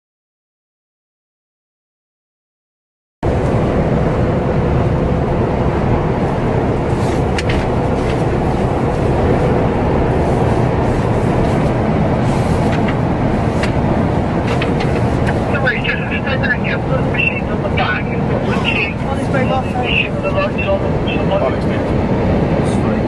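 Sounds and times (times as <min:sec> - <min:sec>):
vehicle engine and road noise: 0:03.2 - 0:23.0.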